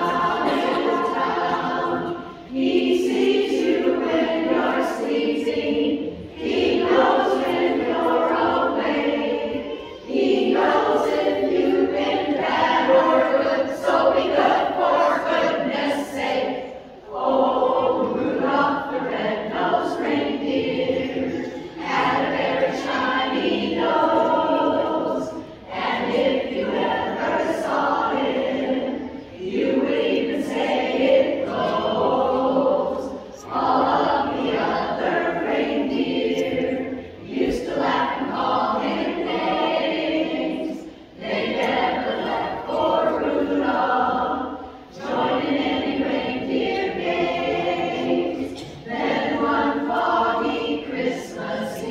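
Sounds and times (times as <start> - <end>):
chorus singing in close harmony: 0.0 - 51.9.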